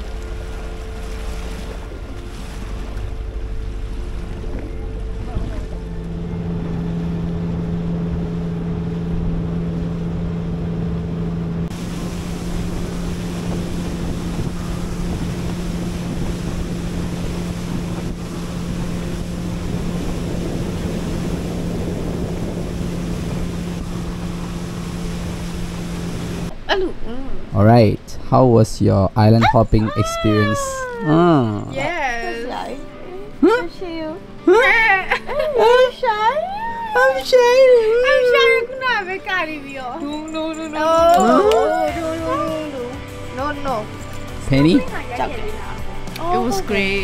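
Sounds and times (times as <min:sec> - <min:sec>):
motorboat engine running: 0:00.0 - 0:27.5, 0:29.5 - 0:47.0
rushing water: 0:00.0 - 0:47.0
wind: 0:00.0 - 0:47.0.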